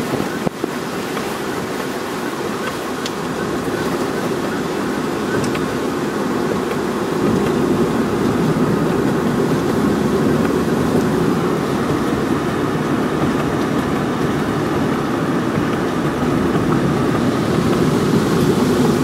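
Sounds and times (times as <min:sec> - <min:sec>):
vehicle road and wind noise: 0:00.0 - 0:19.0.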